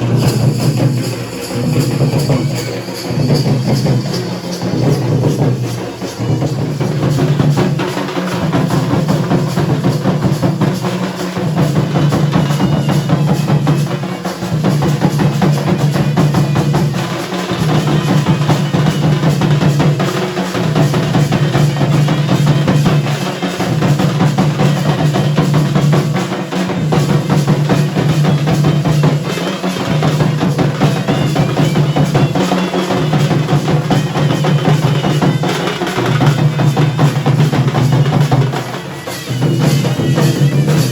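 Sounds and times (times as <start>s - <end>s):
drums beaten in fast rhythm: 0.0s - 40.9s.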